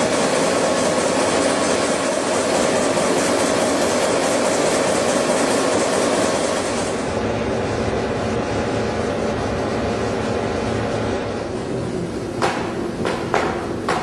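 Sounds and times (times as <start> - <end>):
loud mechanical running noise: 0.0 - 14.0.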